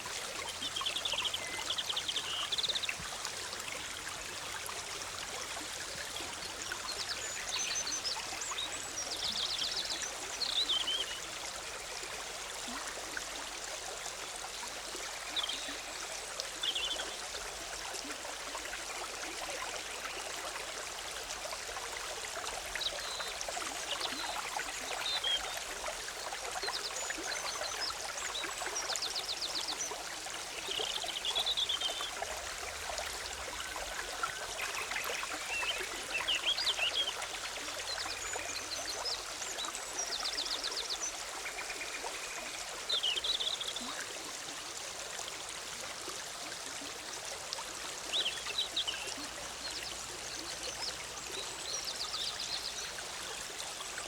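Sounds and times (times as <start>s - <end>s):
stream bubbling and trickling: 0.0s - 54.0s.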